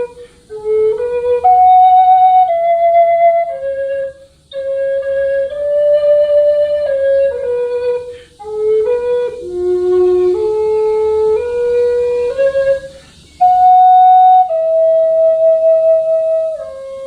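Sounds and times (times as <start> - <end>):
flute playing slow melody: 0.0 - 17.0.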